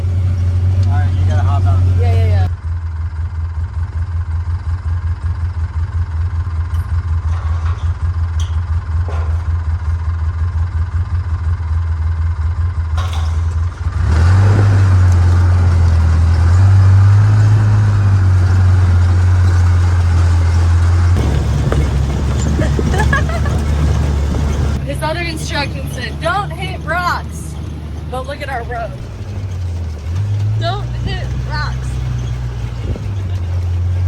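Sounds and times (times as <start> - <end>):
vehicle engine revving and driving: 0.0 - 34.0.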